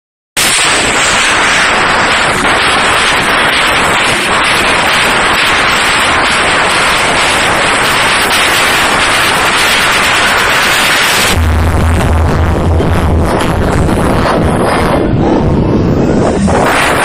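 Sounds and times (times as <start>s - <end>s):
distorted loud dance music: 0.4s - 17.0s.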